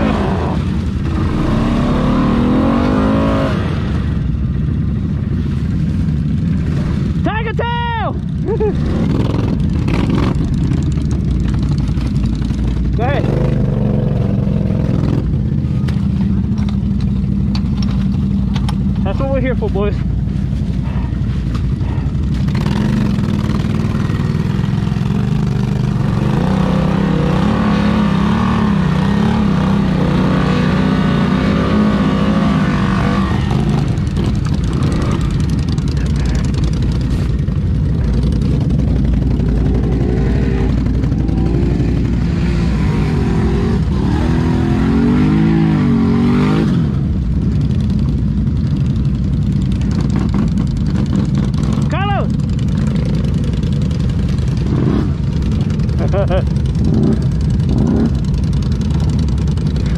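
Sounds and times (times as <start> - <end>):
atv engine revving: 0.0 - 4.6, 6.1 - 59.9.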